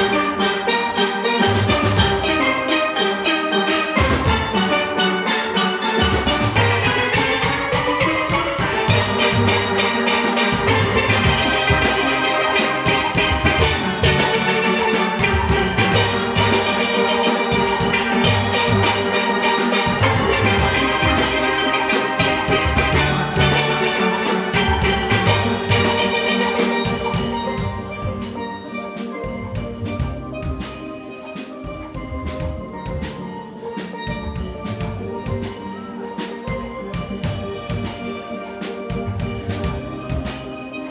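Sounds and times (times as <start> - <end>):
steel orchestra playing: 0.0 - 40.9
bass pans and drums: 1.4 - 2.6, 4.0 - 4.8, 6.0 - 40.9.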